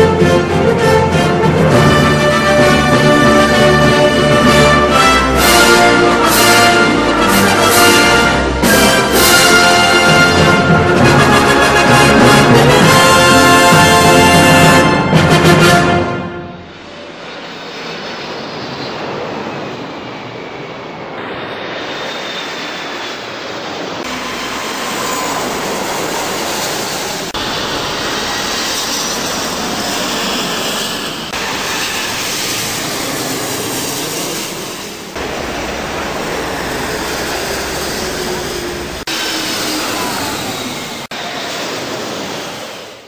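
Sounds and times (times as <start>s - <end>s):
jet airliners passing overhead: 0.0s - 43.0s.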